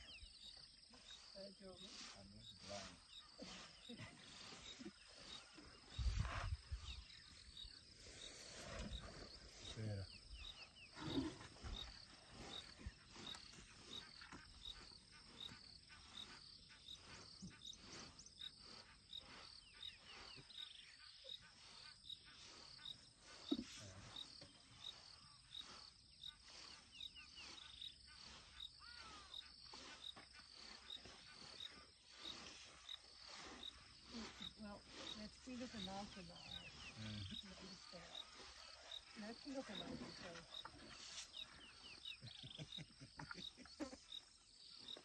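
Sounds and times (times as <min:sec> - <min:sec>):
faint insect chirping: 0:00.0 - 0:45.0.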